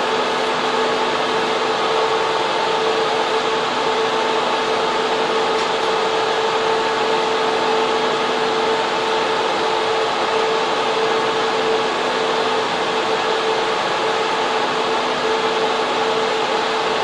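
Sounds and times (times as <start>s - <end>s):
constant hum: 0.0s - 17.0s
cooling fans roaring: 0.0s - 17.0s.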